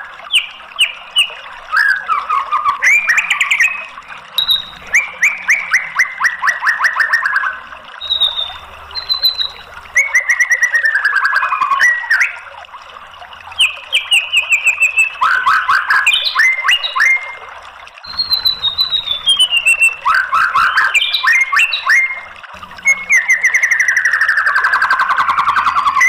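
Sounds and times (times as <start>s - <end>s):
bird singing varied phrases: 0.0s - 12.5s, 13.5s - 26.0s.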